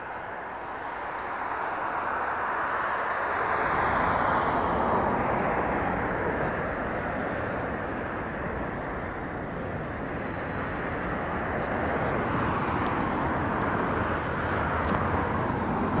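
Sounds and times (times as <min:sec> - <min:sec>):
car passing close by: 0:00.0 - 0:16.0
city street traffic: 0:00.0 - 0:16.0.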